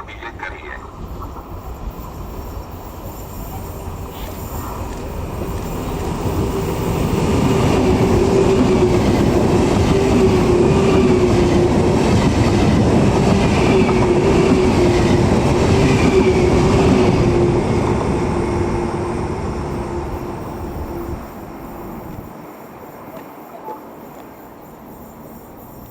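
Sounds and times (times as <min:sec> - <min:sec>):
electric train passing: 0:00.0 - 0:25.9
rumble of train wheels: 0:00.0 - 0:25.9.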